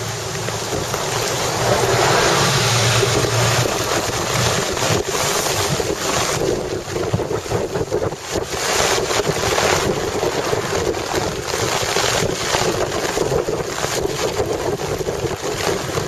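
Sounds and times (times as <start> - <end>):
heavy rain hissing: 0.0 - 16.0
wind buffeting microphone: 0.0 - 16.0.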